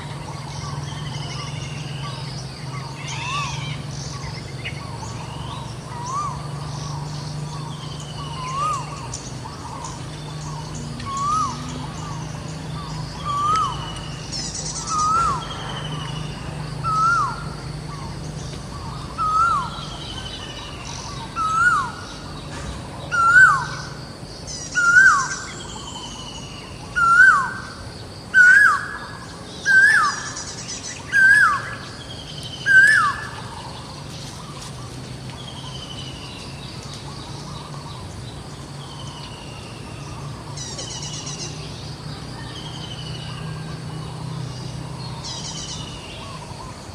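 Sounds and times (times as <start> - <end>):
birds chirping faintly: 0.0 - 46.9
steady low hum: 0.0 - 46.9.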